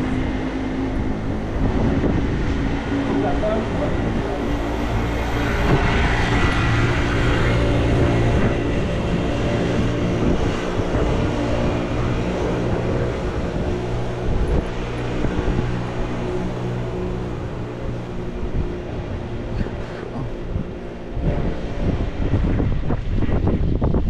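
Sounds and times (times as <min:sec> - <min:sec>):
engine humming: 0:00.0 - 0:24.0
street traffic noise: 0:00.0 - 0:24.0.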